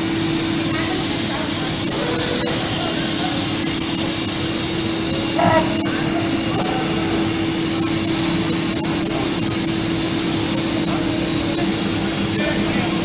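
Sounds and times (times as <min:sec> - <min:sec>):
fabric cutter hissing: 0:00.0 - 0:13.0
machine hum: 0:00.0 - 0:13.0.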